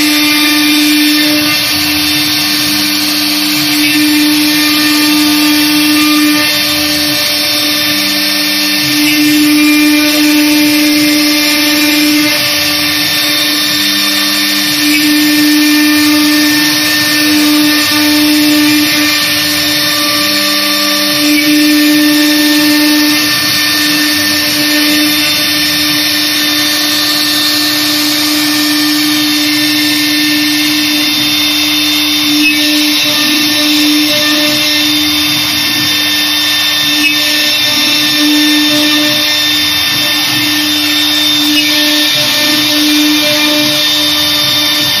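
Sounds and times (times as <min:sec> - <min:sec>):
router spindle routing wood: 0:00.0 - 0:45.0.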